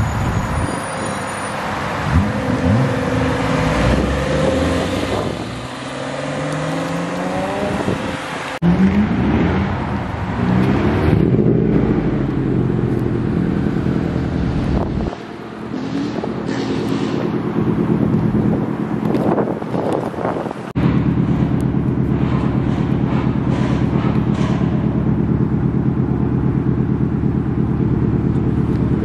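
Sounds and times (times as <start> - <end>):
car engines accelerating hard: 0.3 - 29.0.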